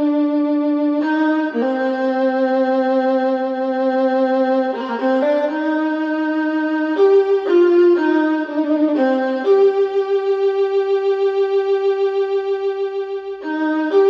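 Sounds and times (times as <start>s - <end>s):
violin music through loudspeaker: 0.0s - 14.0s.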